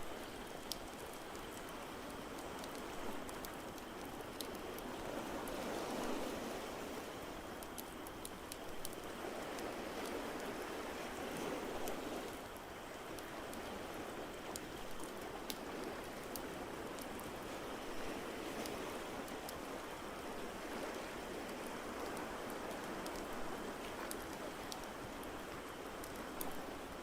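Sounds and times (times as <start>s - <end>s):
ocean waves washing: 0.0s - 27.0s.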